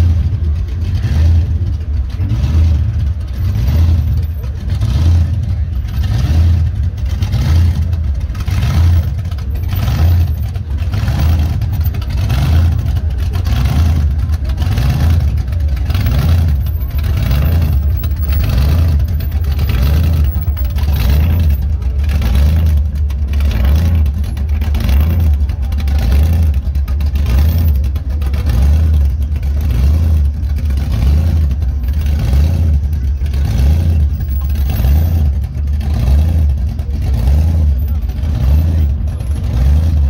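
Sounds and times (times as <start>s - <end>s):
car engine low loping rumble: 0.0s - 40.0s.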